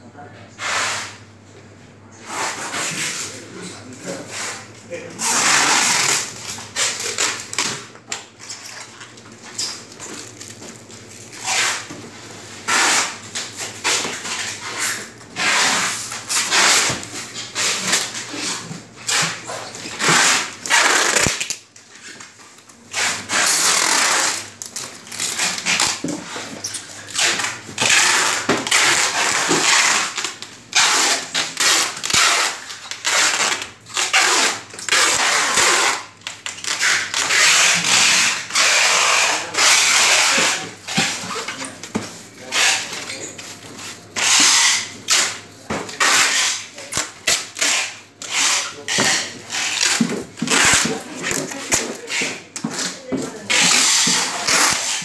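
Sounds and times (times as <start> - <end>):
packing tape pulled off roll: 5.2 - 12.0, 12.6 - 41.7, 42.4 - 43.2, 44.2 - 55.0.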